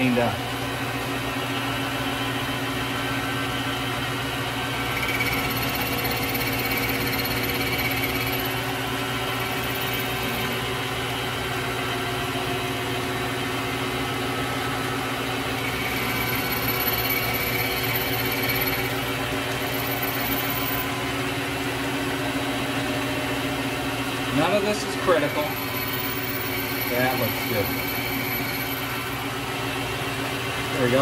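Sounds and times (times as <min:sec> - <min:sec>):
metal lathe motor hum and whine: 0:00.1 - 0:31.0.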